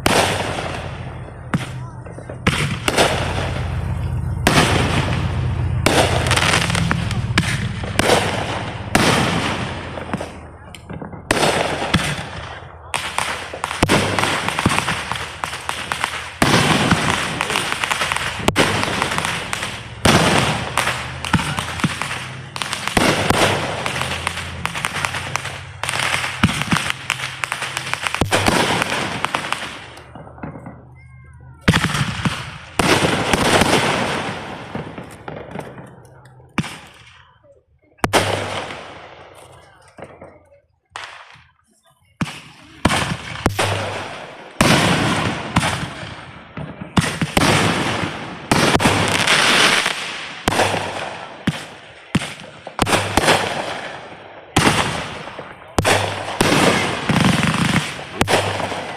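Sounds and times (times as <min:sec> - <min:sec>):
fireworks bangs: 0:00.0 - 0:58.9.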